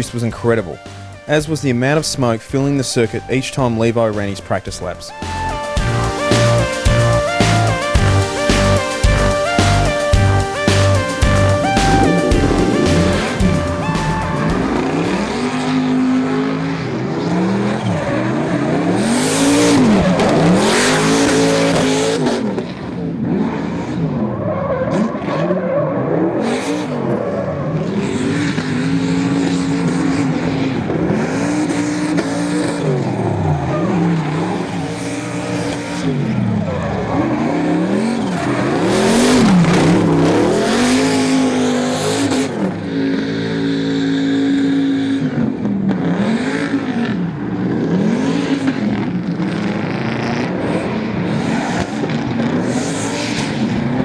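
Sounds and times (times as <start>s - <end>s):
car engine revving: 5.1s - 54.0s.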